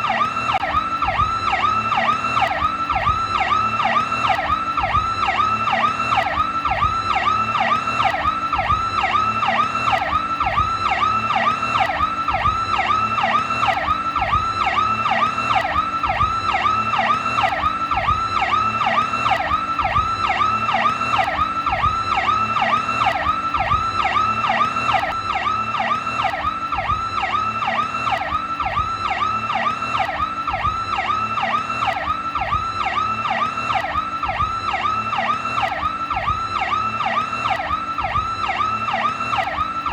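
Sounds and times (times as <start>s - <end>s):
warbling police siren: 0.0s - 39.9s.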